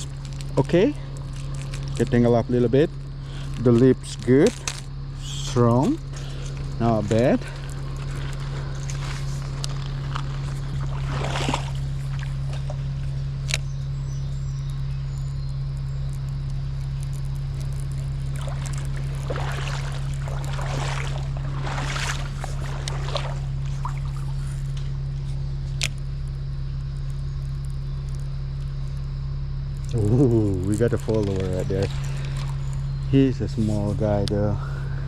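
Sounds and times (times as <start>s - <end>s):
creek water sloshing: 0.0s - 13.7s, 16.6s - 25.9s, 29.9s - 35.0s
low hum: 0.0s - 35.0s.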